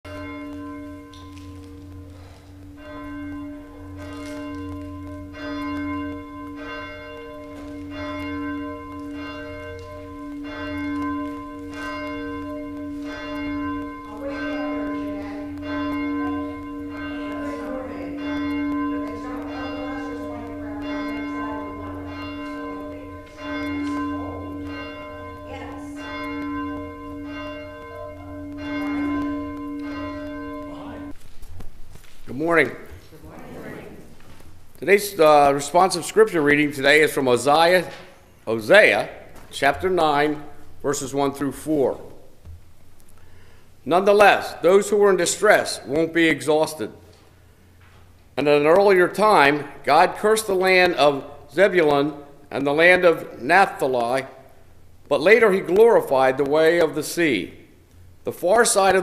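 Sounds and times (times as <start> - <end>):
church bell tolling: 0.0 - 31.2, 34.9 - 42.4, 48.4 - 57.8, 58.6 - 59.0.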